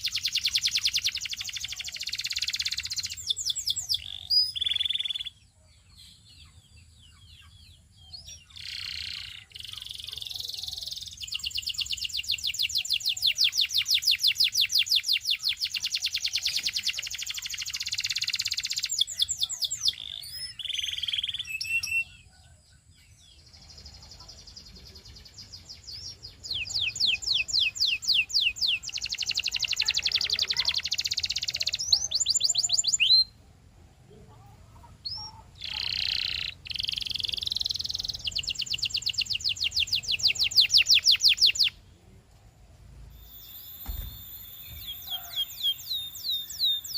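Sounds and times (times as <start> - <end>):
canary singing trills: 0.0 - 41.8, 43.1 - 46.9.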